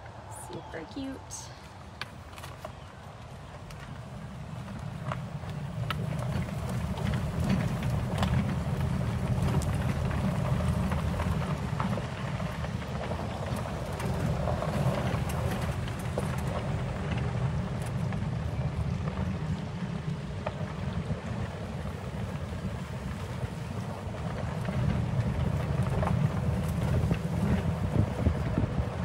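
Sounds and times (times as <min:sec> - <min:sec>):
vehicle rumble of motor and tyres: 0:00.0 - 0:29.0
wind buffeting microphone: 0:00.0 - 0:29.0.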